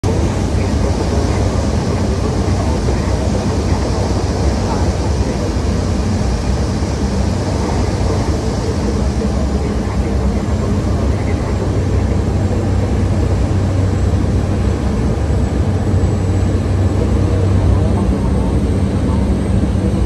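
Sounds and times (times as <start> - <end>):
turboprop engine droning: 0.0 - 20.0.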